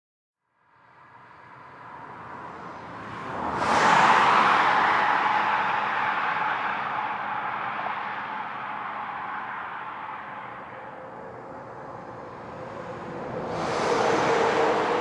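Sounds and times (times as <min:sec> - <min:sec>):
rushing noise: 0:02.6 - 0:15.0.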